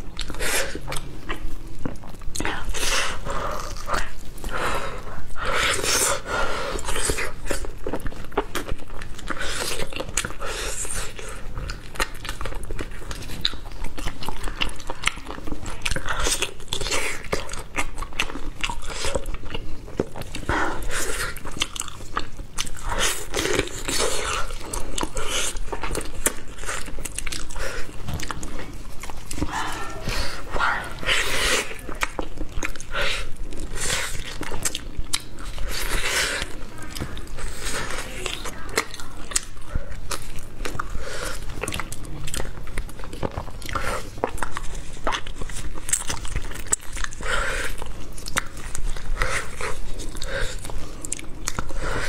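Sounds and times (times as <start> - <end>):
person chewing meat: 0.0 - 52.0.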